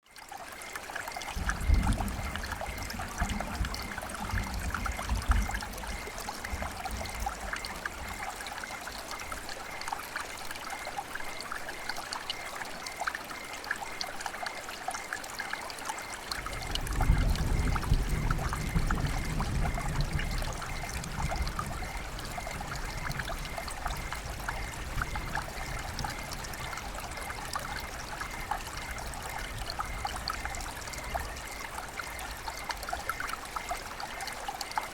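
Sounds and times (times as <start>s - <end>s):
river water babbling: 0.1s - 34.9s.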